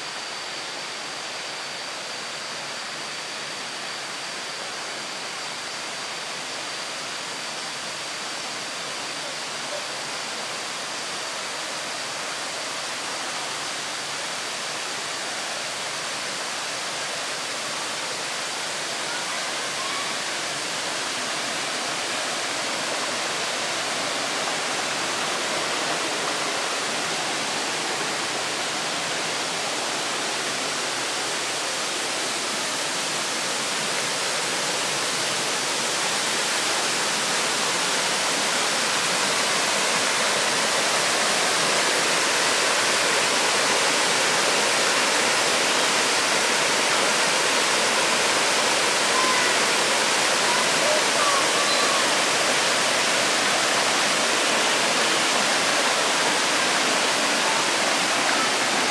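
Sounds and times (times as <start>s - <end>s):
waterfall rushing over rocks: 0.0s - 58.9s.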